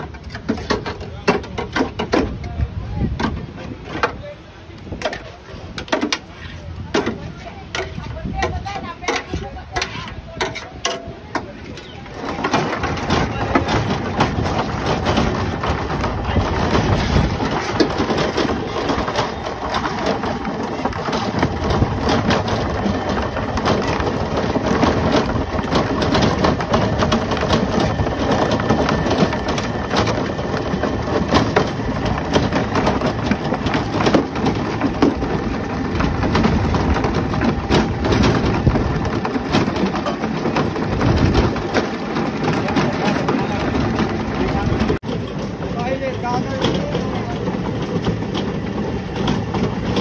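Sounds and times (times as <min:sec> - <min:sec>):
pulping machine crushing fruit: 0:00.0 - 0:50.0.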